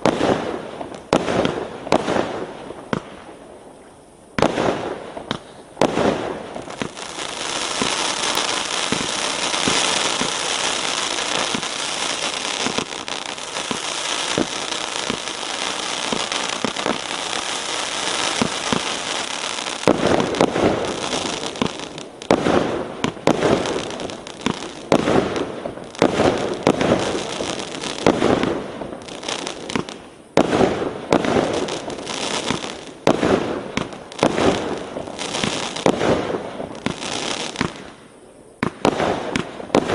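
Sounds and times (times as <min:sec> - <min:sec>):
fireworks crackling and bursting: 0:00.0 - 0:39.9.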